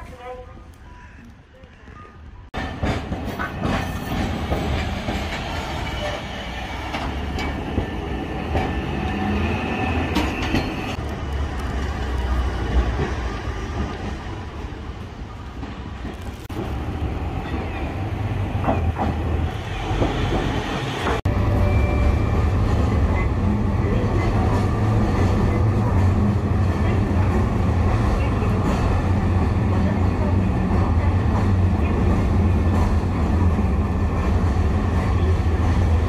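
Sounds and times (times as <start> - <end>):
tram motors and wheels on rails: 0.0 - 36.0.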